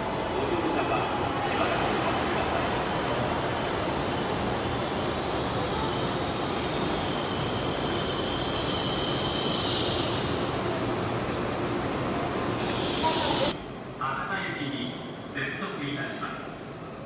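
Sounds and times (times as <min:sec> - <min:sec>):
train running noise: 0:00.0 - 0:14.8
high-pitched train whine: 0:00.0 - 0:17.0.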